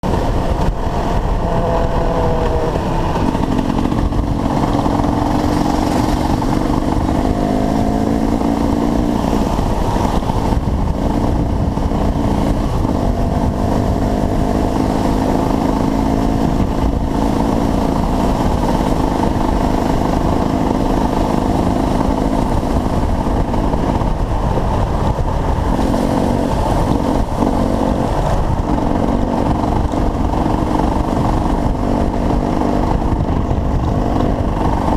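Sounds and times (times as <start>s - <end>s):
dirt bike engines revving: 0.0s - 34.9s
steady rushing noise: 0.0s - 34.9s.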